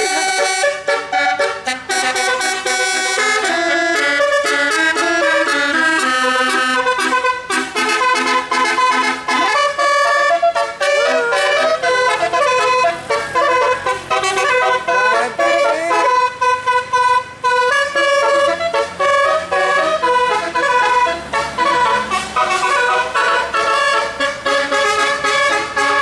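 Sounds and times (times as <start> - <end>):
musical air horn melody: 0.0 - 26.0.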